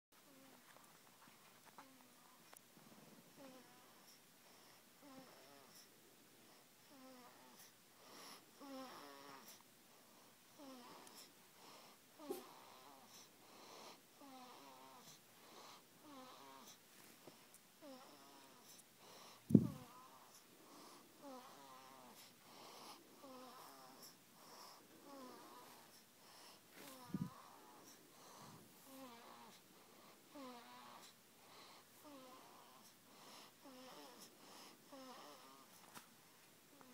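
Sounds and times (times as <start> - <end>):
baby snoring faintly: 0.2 - 0.9, 1.5 - 2.6, 3.3 - 36.0.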